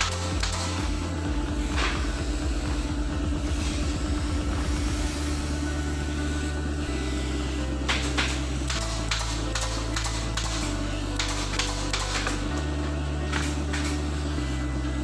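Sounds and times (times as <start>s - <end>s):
music with deep bass line: 0.0s - 15.0s.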